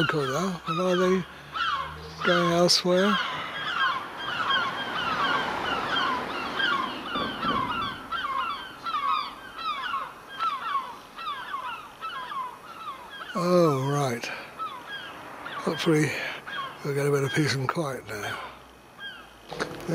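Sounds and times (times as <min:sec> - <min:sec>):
seagulls calling: 0:00.0 - 0:19.9.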